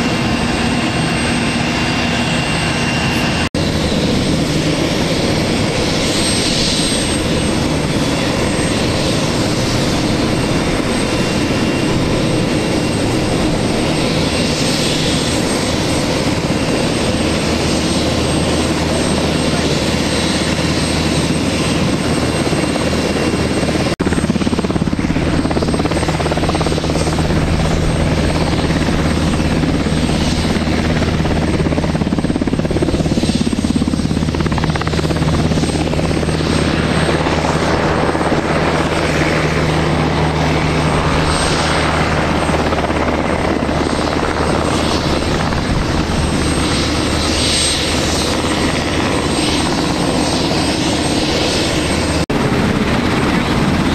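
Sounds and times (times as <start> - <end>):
helicopter rotor and engine drone: 0.0 - 53.9.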